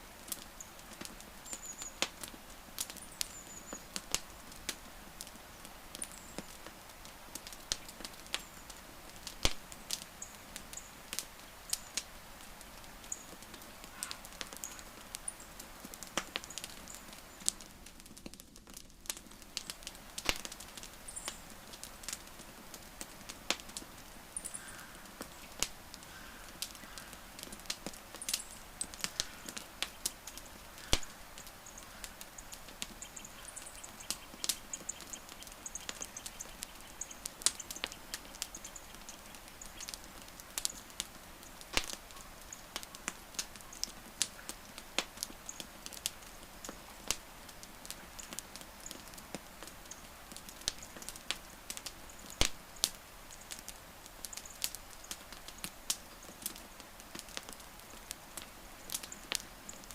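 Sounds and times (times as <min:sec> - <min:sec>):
wood fire crackling: 0:00.0 - 0:59.9
fire hissing: 0:00.1 - 0:59.9.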